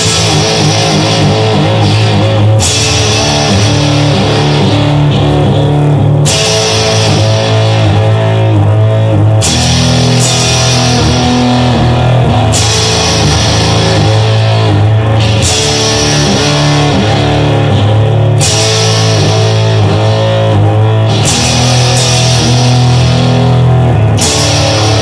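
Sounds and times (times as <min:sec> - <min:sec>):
bass guitar: 0:00.0 - 0:25.0
distorted electric guitar: 0:00.0 - 0:25.0
drum kit: 0:00.0 - 0:25.0.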